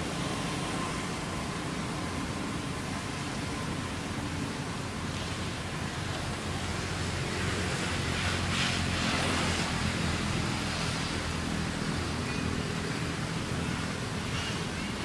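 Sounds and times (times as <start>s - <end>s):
wind rushing through trees: 0.0s - 15.0s.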